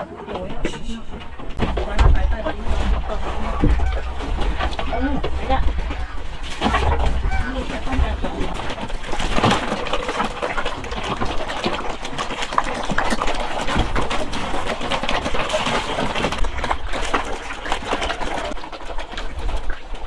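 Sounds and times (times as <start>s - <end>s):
pigs chomping and slurping: 0.0s - 20.0s.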